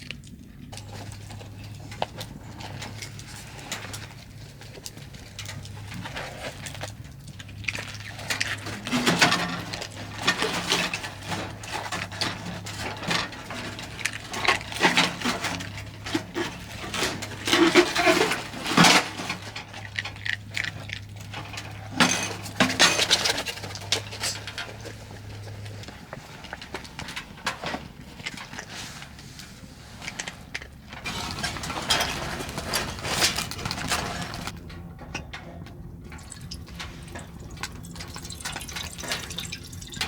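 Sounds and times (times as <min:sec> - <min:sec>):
small hard objects clinking: 0:00.0 - 0:28.8, 0:36.0 - 0:40.0.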